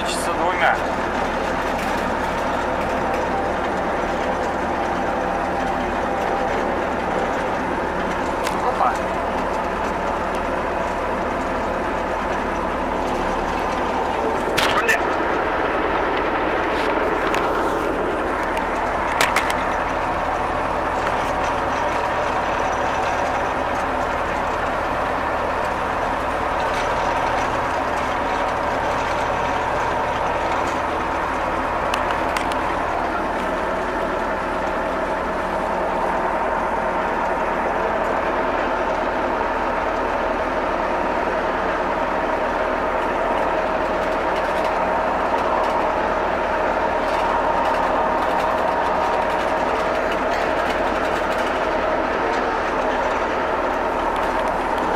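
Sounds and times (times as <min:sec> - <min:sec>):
diesel engine running: 0:00.0 - 0:54.9
machine mechanical noise: 0:00.0 - 0:54.9.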